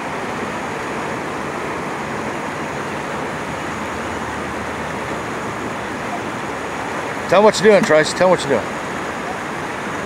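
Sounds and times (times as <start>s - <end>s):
turbulent river water rushing: 0.0s - 10.0s.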